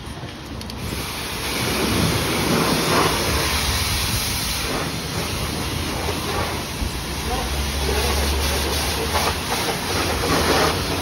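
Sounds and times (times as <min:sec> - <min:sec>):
pressure washer spraying car: 0:00.0 - 0:11.0.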